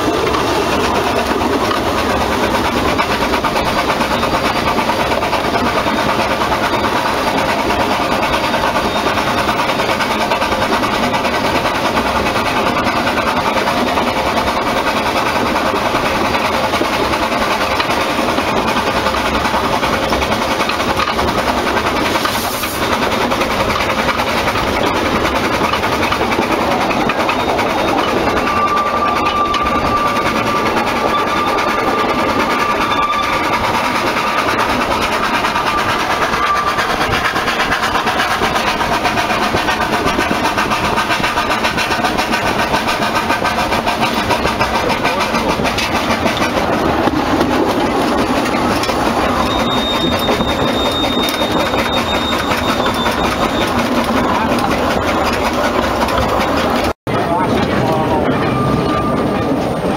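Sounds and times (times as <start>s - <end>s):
steam locomotive engine working: 0.0s - 59.9s
wheels on rails: 0.0s - 59.9s.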